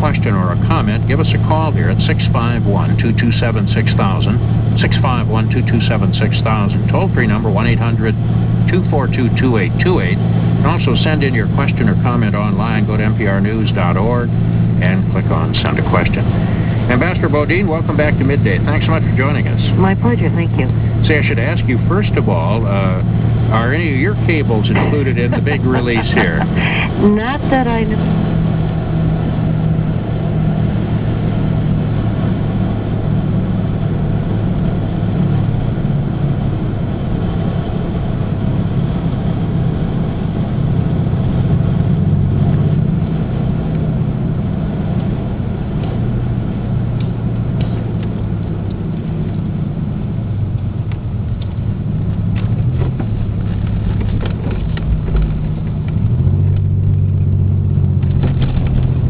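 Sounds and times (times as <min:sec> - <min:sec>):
vehicle engine humming: 0:00.0 - 0:59.0.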